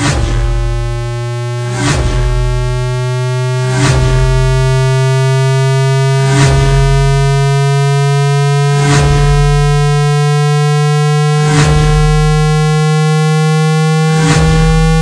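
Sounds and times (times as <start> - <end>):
buzzy synthesized tone rising: 0.0 - 15.0.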